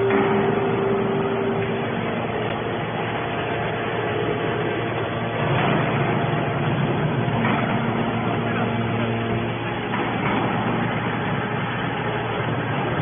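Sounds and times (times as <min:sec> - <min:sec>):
hydraulic baler machine drone: 0:00.0 - 0:13.0.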